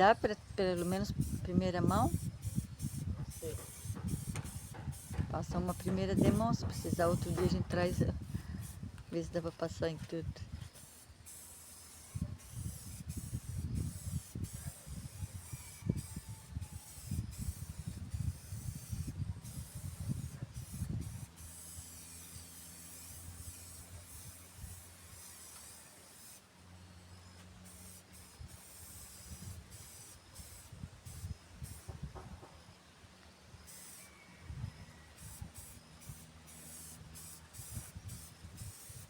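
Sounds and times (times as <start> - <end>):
spray paint can hissing: 0.0 - 26.5, 27.6 - 32.5, 33.6 - 34.1, 35.1 - 39.0.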